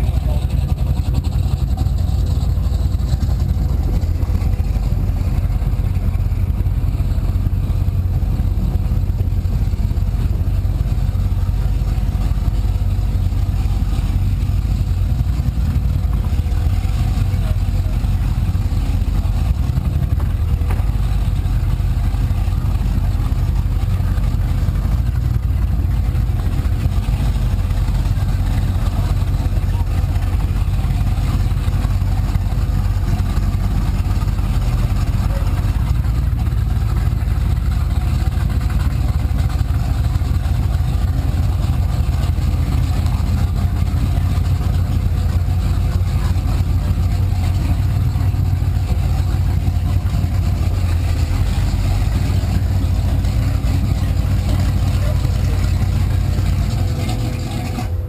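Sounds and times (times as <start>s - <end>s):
boat engine rumbling: 0.0s - 58.0s.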